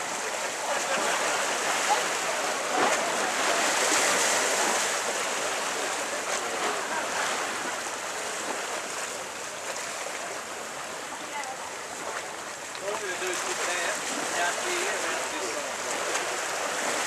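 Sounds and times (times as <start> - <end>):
rushing harbour water: 0.0 - 17.0
wind: 0.0 - 17.0.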